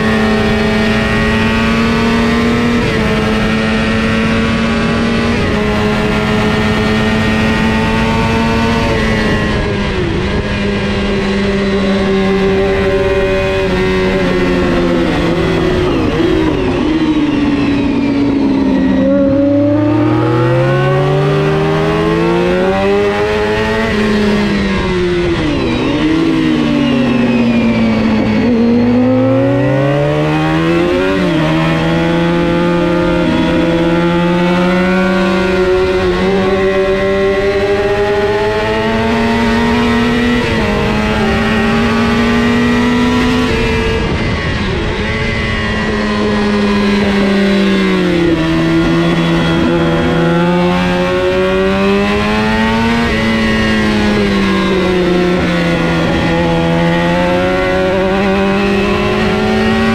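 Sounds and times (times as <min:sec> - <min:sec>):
racing motorcycle engine: 0:00.0 - 0:59.9
wind and road noise: 0:00.0 - 0:59.9.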